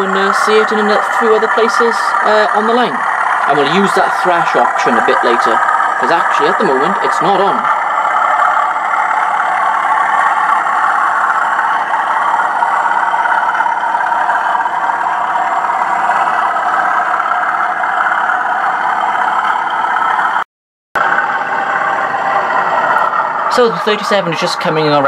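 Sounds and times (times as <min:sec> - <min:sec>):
diesel engine sound from small speaker: 0:00.0 - 0:20.4, 0:21.0 - 0:25.0.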